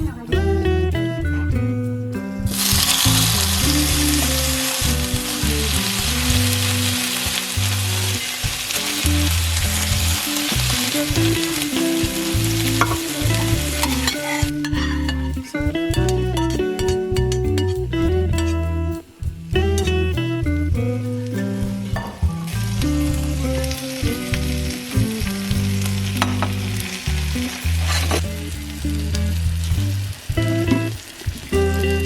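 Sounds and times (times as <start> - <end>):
light background music: 0.0 - 32.0
food frying in oil: 2.5 - 17.7, 21.4 - 32.0.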